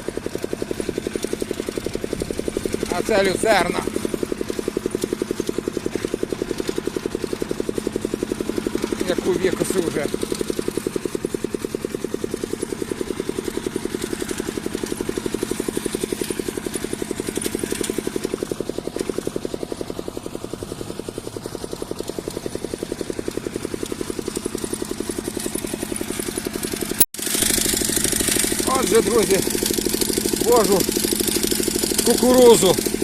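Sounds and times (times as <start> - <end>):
single-cylinder tractor engine running: 0.0 - 33.0.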